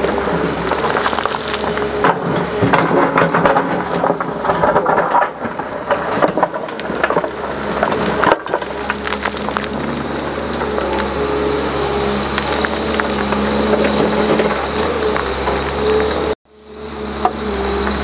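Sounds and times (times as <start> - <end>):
excavator bucket scraping rocks: 0.0 - 16.4
diesel engine hum: 0.0 - 18.0.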